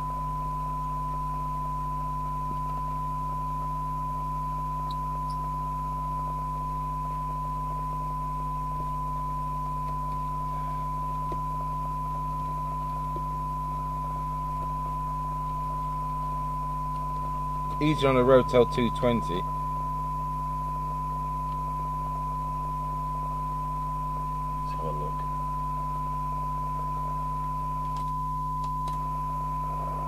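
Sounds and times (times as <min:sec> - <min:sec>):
low hum: 0:00.0 - 0:30.0
steady test tone from speaker: 0:00.0 - 0:30.0.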